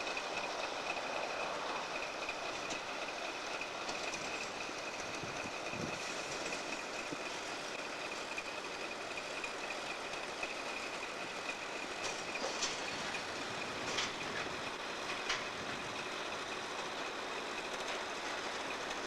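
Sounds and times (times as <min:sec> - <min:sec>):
train wheels rolling: 0:00.0 - 0:19.0.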